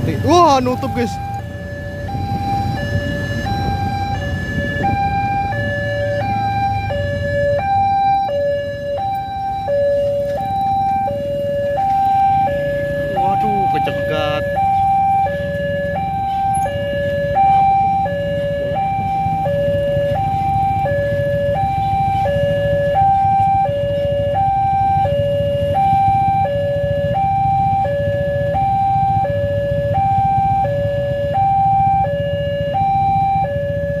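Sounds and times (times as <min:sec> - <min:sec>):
level crossing two-tone alarm: 0:00.0 - 0:34.0
low engine rumble of traffic: 0:00.0 - 0:34.0.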